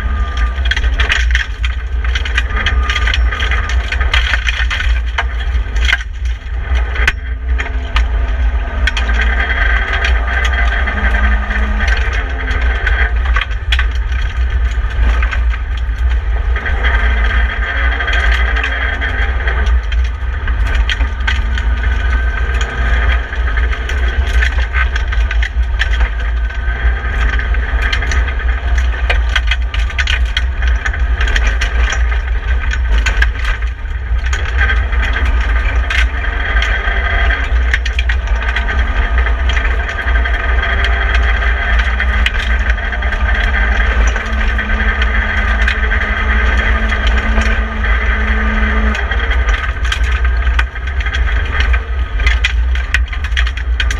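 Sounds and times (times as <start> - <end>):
cabin ticks and rattles: 0.0 - 53.9
car engine running hard: 0.0 - 53.9
heavy low rumble: 0.0 - 53.9.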